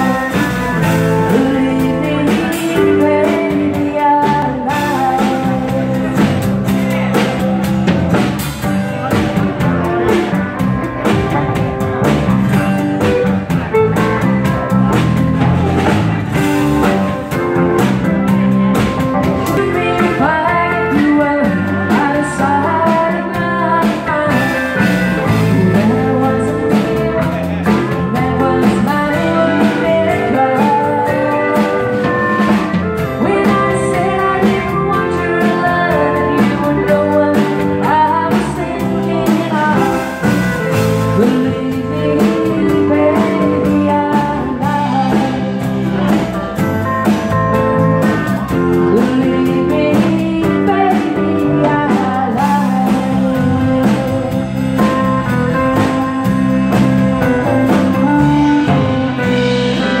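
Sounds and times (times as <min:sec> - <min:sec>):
woman singing: 0:00.0 - 0:07.5, 0:17.8 - 0:46.3, 0:48.0 - 1:00.0
live country band playing: 0:00.0 - 1:00.0.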